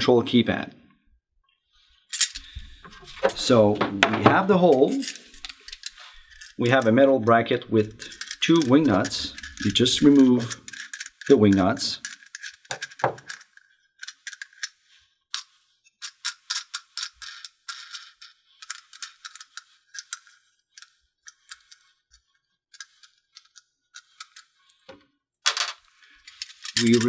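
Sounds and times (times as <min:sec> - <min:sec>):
wing nuts clicking and rattling: 0:03.2 - 0:14.8, 0:15.4 - 0:27.0.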